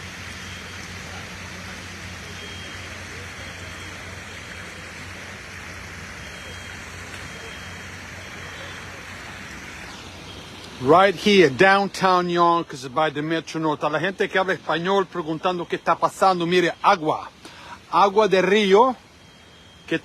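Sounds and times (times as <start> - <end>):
low engine drone: 0.0 - 20.0
river water rushing: 0.0 - 20.0.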